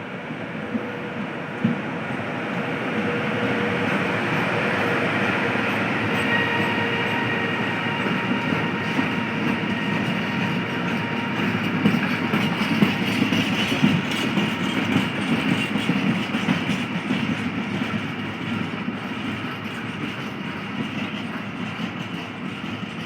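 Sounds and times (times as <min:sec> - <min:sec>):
train wheels rolling on track: 0:00.0 - 0:23.0.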